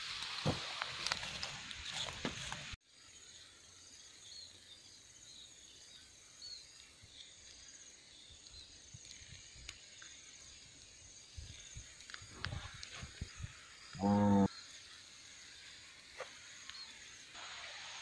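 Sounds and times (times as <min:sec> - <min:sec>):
insects trilling: 0:01.1 - 0:18.0.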